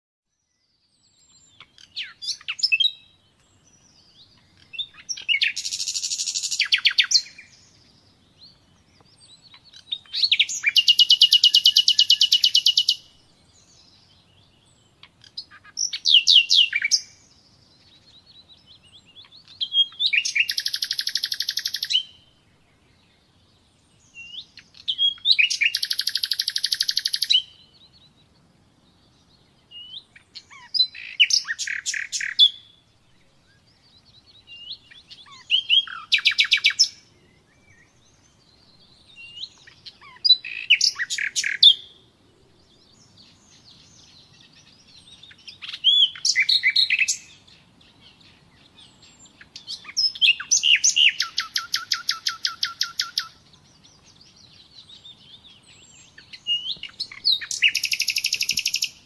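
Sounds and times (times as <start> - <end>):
nightingale singing: 0.3 - 59.0.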